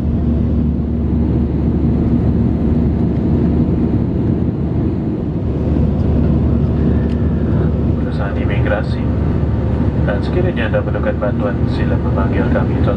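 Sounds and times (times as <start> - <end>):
airplane cabin engine rumble: 0.0 - 12.9.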